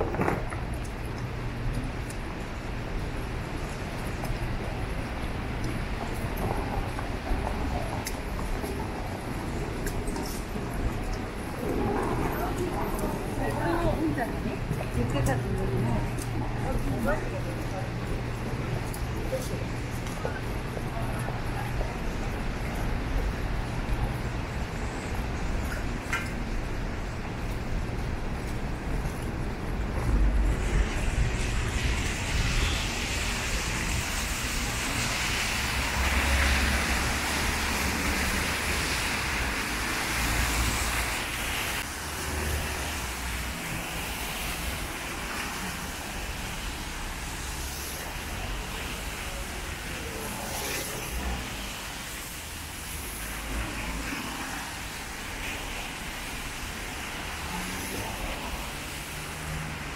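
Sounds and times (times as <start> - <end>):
heavy rain: 0.0 - 59.9
tyres hissing on wet road: 0.0 - 59.9.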